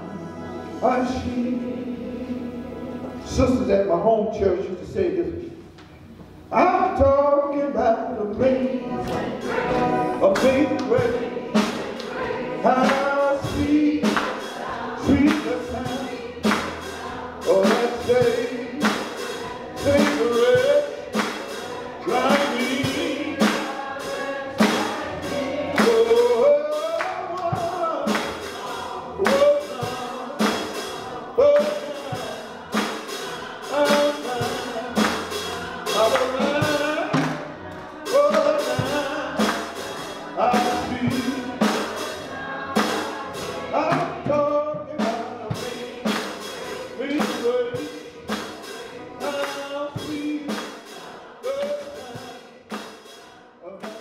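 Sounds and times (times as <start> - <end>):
gospel singing: 0.0 - 54.0
steady percussion beat: 8.3 - 54.0.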